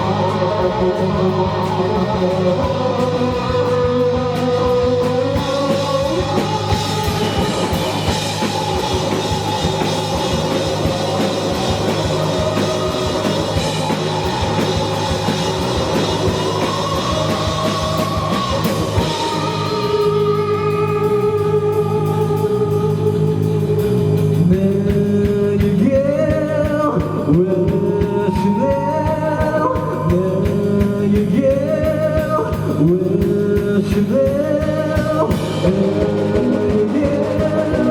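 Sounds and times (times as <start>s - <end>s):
bass guitar: 0.0s - 37.9s
drum kit: 0.0s - 37.9s
electric guitar: 0.0s - 37.9s
person singing: 0.0s - 37.9s.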